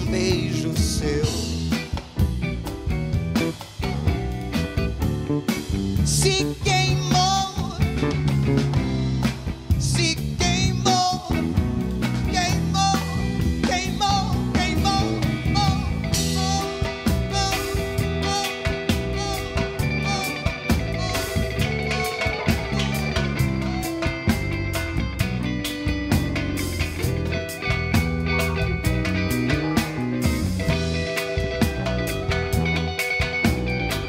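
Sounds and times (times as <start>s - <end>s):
drum kit: 0.0s - 34.0s
electric bass: 0.0s - 34.0s
electric guitar: 0.0s - 34.0s
electric keyboard lead: 0.0s - 34.0s.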